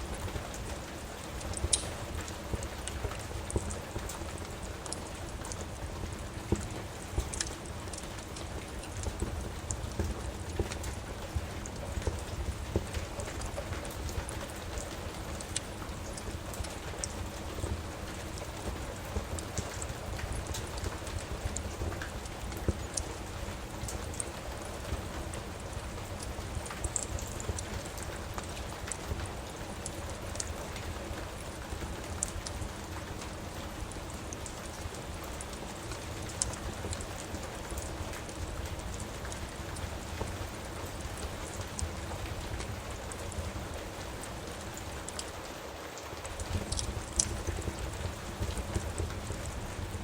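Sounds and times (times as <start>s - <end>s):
sharp ticks and crackles: 0.0s - 50.0s
steady rain: 0.0s - 50.0s.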